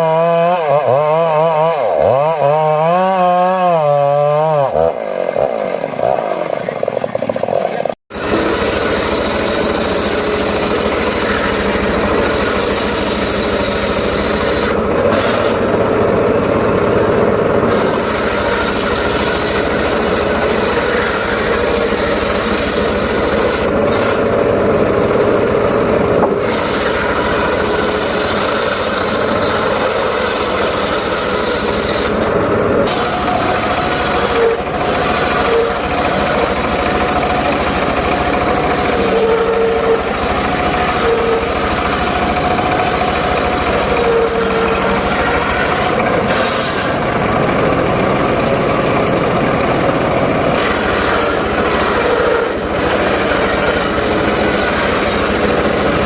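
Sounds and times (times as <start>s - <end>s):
small saw engine running: 0.0s - 56.0s.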